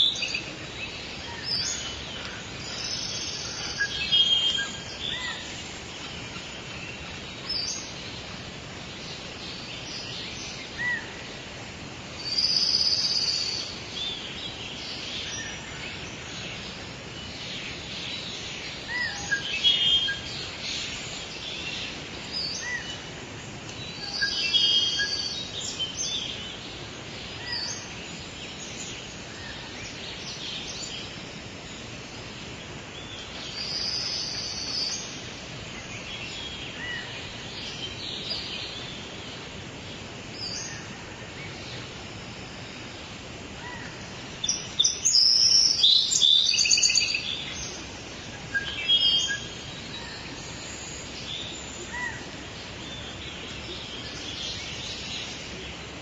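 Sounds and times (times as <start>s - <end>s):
outdoor background hiss: 0.0s - 56.0s
wild birds singing: 0.0s - 56.0s.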